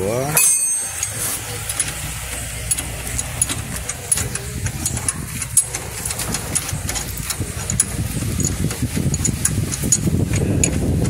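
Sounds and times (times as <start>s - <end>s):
low steady hum: 0.0s - 11.0s
metallic clicks of a wrench: 1.0s - 10.8s.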